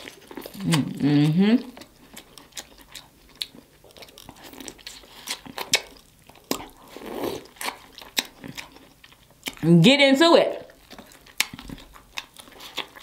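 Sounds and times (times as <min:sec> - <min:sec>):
biting and chewing corn on the cob: 0:00.0 - 0:09.7, 0:10.7 - 0:13.0.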